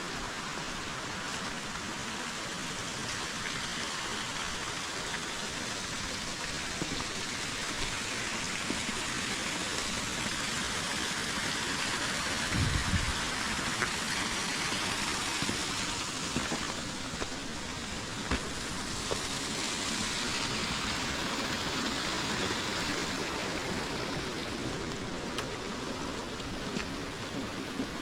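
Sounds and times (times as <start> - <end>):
river flowing: 0.0 - 28.0.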